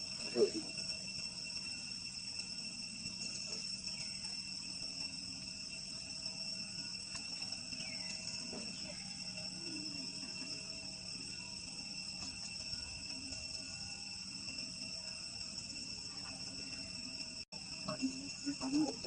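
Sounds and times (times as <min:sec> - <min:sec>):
crickets droning: 0:00.0 - 0:19.0.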